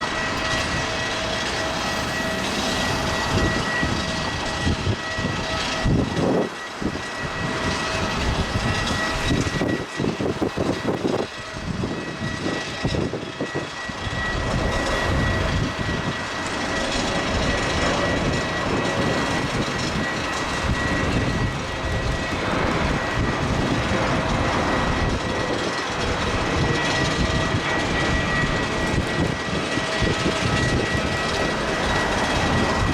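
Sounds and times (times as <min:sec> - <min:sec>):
jet engines rushing and whining: 0:00.0 - 0:32.9.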